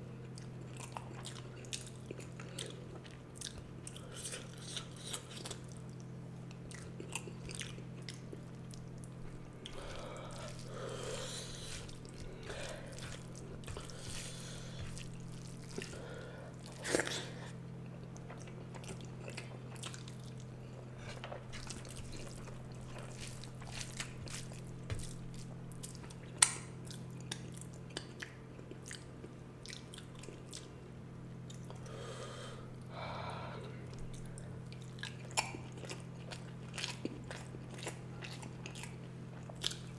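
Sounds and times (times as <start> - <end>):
steady low hum: 0.0 - 39.9
chewing and mouth sounds: 0.2 - 30.8, 33.7 - 39.9.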